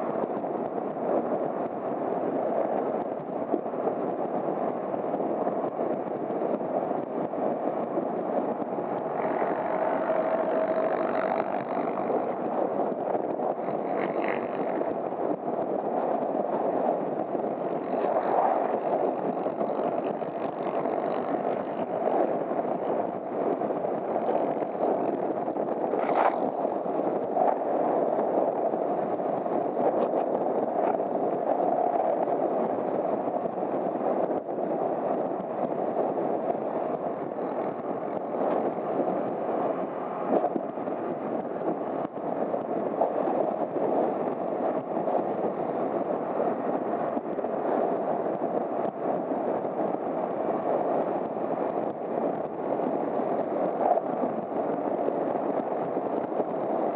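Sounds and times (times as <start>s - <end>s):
wind rush: 0.0s - 56.9s.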